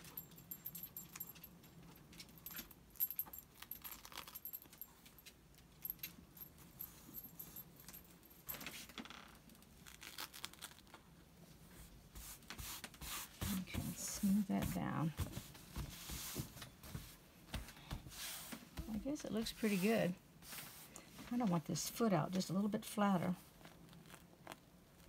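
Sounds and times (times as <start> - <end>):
rustling and crinkling of fabric: 0.0 - 25.0.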